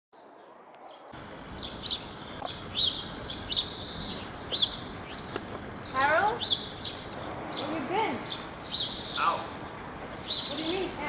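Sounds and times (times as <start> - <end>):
small birds chirping: 0.9 - 11.0
faint background hiss: 1.2 - 11.0.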